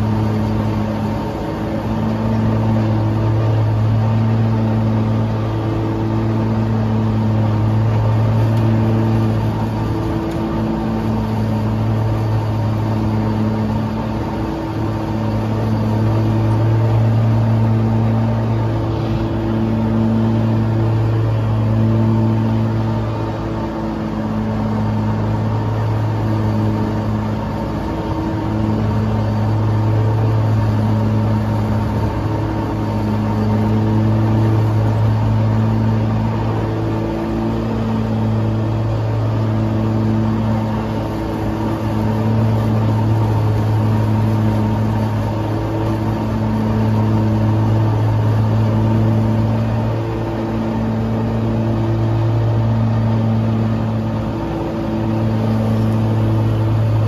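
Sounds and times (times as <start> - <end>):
lawn mower engine droning: 0.0 - 57.0.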